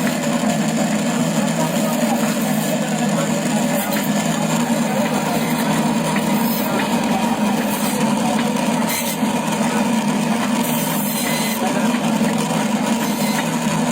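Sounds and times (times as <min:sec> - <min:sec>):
low machine hum: 0:00.0 - 0:13.9.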